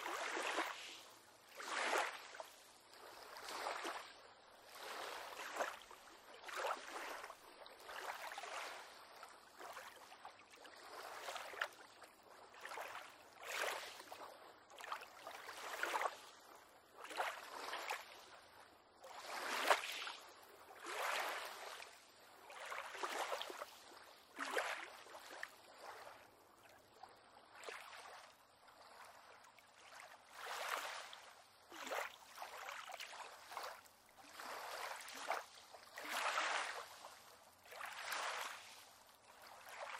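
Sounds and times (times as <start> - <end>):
waves lapping against a pier: 0.0 - 39.9.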